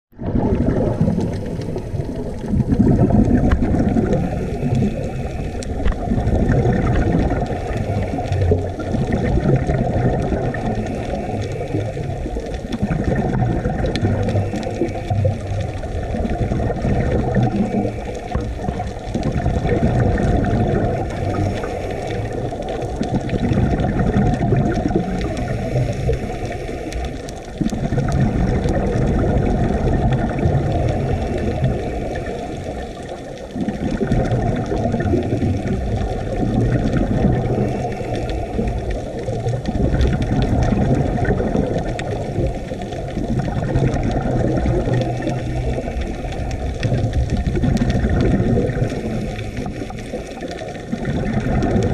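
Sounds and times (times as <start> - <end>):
underwater bubbles rumbling: 0.1 - 51.9.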